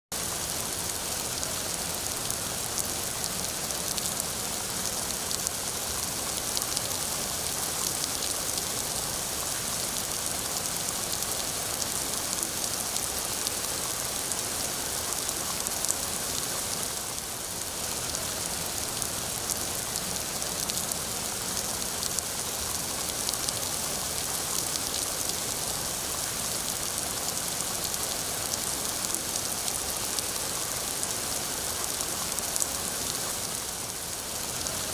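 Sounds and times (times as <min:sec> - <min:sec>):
rain pattering on a surface: 0:00.1 - 0:34.9.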